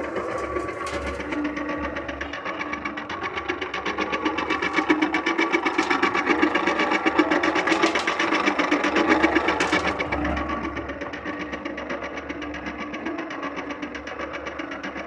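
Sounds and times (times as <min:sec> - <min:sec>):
concrete mixer rattling: 0:00.0 - 0:15.0.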